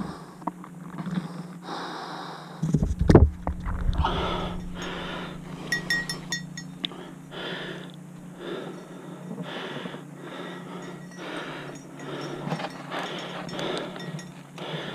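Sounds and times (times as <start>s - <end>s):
heavy breathing: 0.0s - 2.8s, 3.9s - 14.9s.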